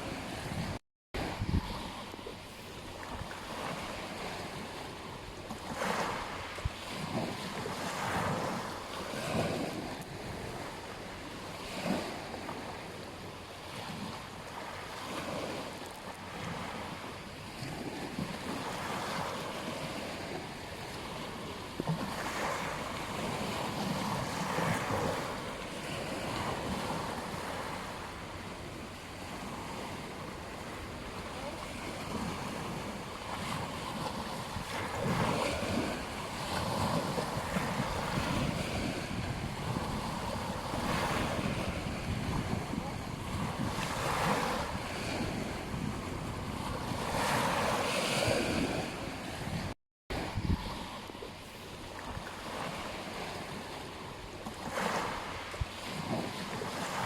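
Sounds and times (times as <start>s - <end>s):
ocean surf washing onto beach: 0.0s - 57.0s
wind: 0.0s - 57.0s.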